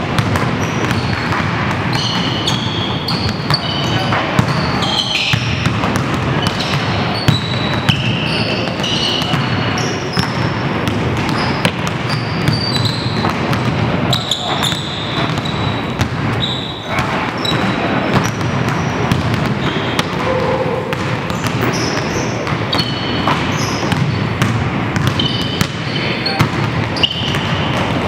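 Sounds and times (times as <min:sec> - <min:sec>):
basketballs bouncing on wooden floor: 0:00.0 - 0:28.0
sneakers squeaking: 0:00.0 - 0:28.0.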